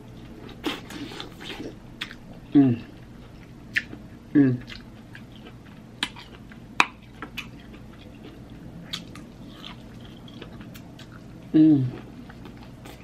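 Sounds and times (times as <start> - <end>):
chewing corn on the cob: 0.2 - 13.0.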